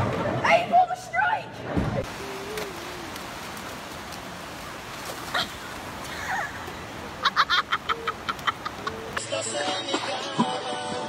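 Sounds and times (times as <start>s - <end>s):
wind: 0.0s - 11.0s
surf on a beach: 2.0s - 11.0s.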